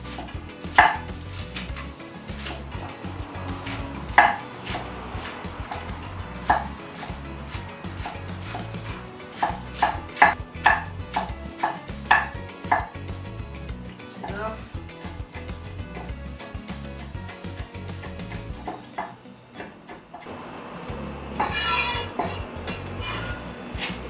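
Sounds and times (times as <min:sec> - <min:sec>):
cleaver chopping greens: 0:00.0 - 0:20.4, 0:21.4 - 0:24.0.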